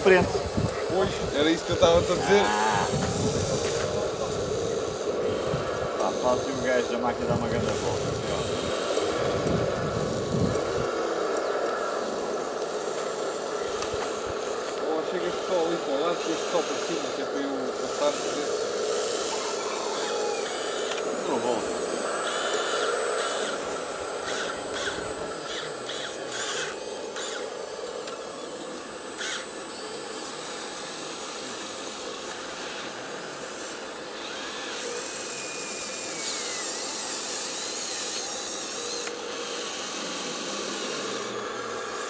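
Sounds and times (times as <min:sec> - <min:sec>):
small electric motors whirring: 0:00.0 - 0:42.0
thin high whine: 0:00.0 - 0:42.0.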